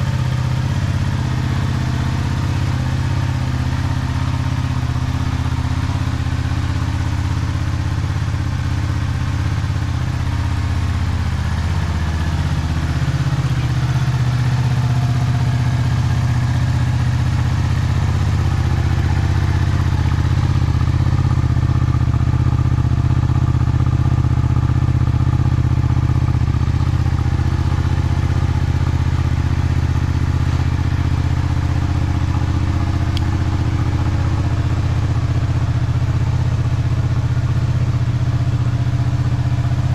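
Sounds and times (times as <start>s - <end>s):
motorcycle engine idling low revs: 0.0s - 39.9s.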